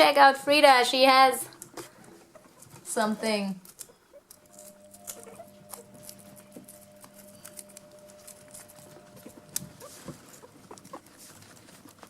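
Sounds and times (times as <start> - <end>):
faint steady hum: 0.0 - 12.0
guinea pigs chewing: 0.0 - 12.0.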